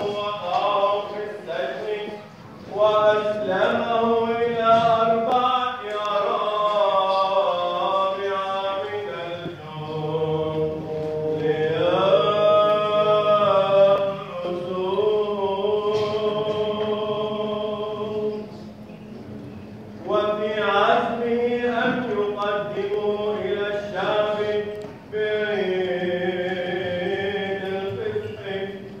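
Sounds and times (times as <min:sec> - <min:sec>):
man chanting: 0:00.0 - 0:18.6, 0:20.0 - 0:29.0.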